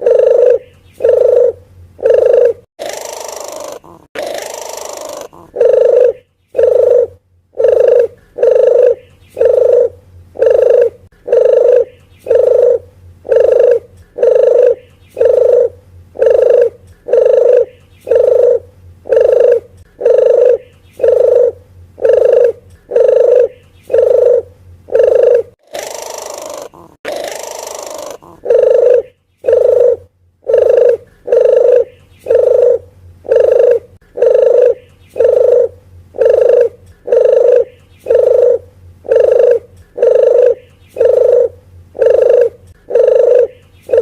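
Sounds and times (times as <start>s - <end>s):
dove cooing: 0.0s - 44.0s.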